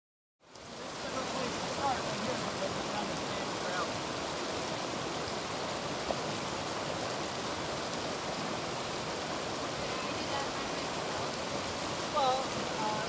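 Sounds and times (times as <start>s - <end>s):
river rushing over rapids: 0.4s - 13.0s.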